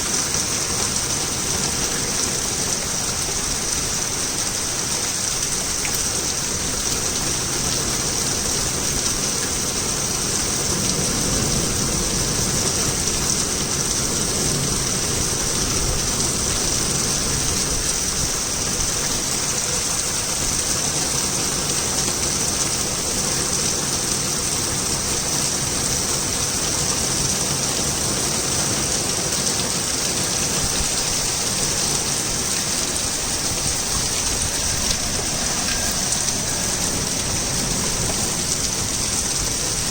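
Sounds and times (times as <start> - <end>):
torrential rain falling: 0.0 - 39.9.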